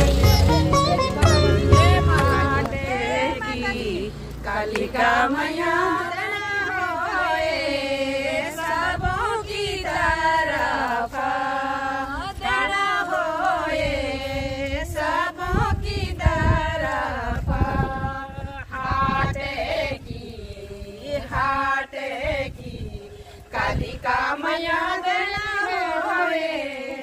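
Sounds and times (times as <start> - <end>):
women singing in chorus: 1.4 - 27.0.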